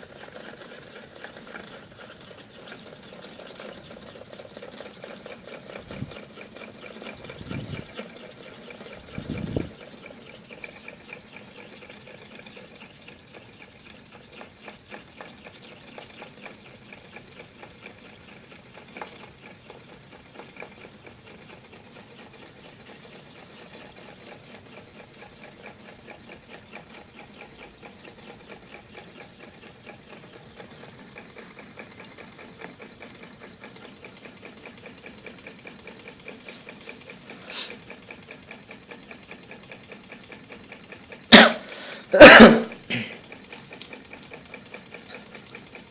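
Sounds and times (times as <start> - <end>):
small engine clattering: 0.0 - 45.9.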